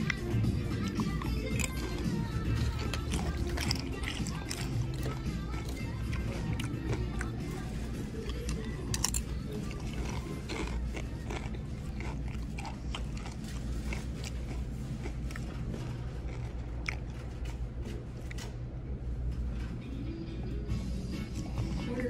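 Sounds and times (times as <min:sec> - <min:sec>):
crunching chips: 0:00.0 - 0:18.5.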